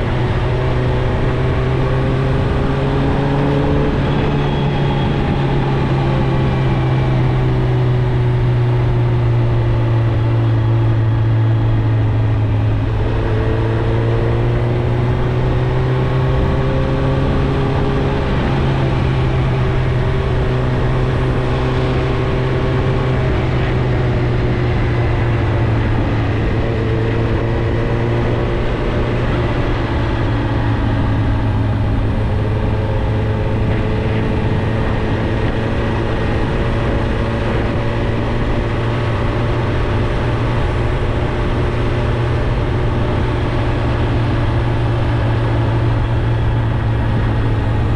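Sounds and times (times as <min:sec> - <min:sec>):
motorcycle engine at steady revs: 0:00.0 - 0:47.9.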